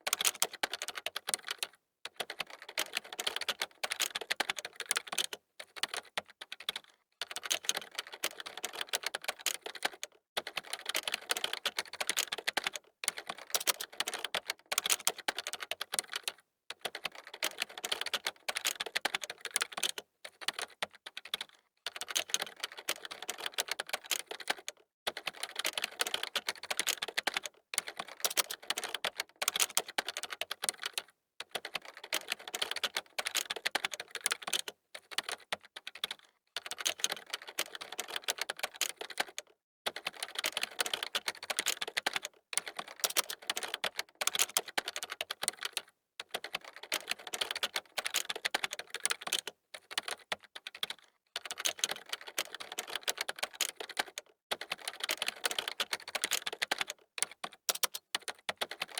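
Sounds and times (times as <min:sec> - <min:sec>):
keyboard typing: 0:00.1 - 0:58.9.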